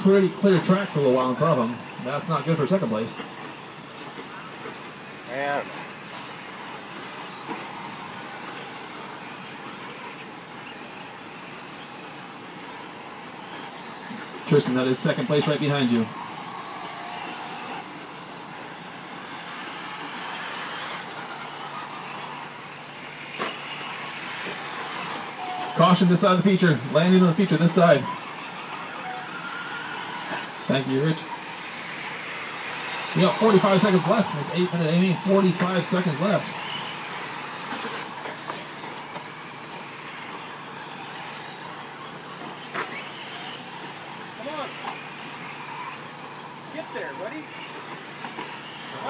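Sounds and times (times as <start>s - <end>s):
rc truck motor whine: 0.0s - 49.0s.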